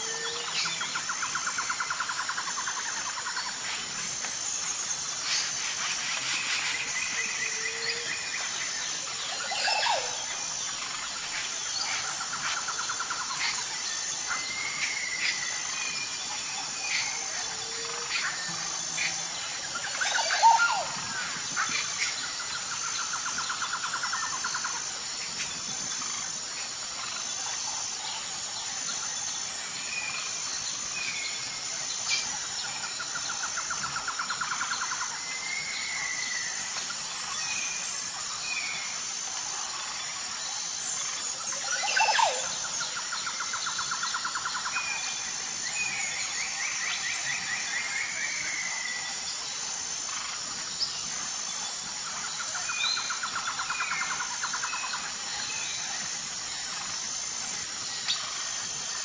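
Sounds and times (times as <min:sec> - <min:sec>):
high insect chorus: 0:00.0 - 0:59.0.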